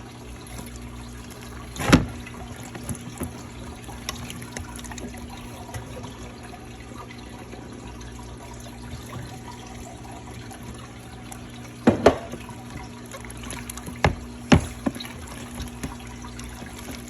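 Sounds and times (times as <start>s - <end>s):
slime squishing: 0.0s - 6.3s, 8.3s - 17.0s.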